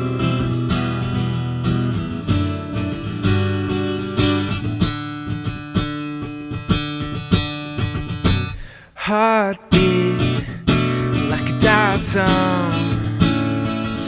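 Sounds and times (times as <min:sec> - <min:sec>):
guitar strumming chords: 0:00.0 - 0:08.7, 0:09.6 - 0:14.0.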